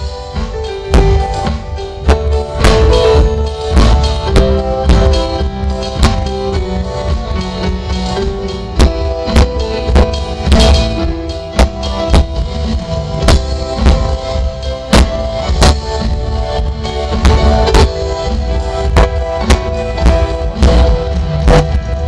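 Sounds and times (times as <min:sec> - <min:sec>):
bass guitar: 0:00.0 - 0:22.0
electronic drum kit beat: 0:00.0 - 0:22.0
keyboard: 0:00.0 - 0:22.0.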